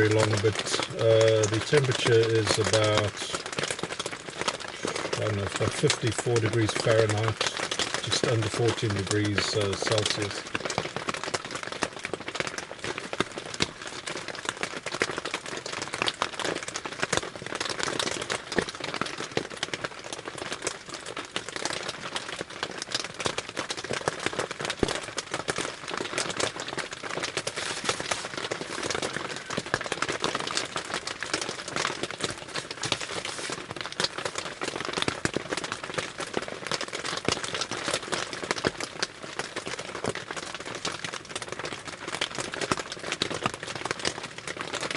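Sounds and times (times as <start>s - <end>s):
rain on a tarp: 0.0s - 44.9s.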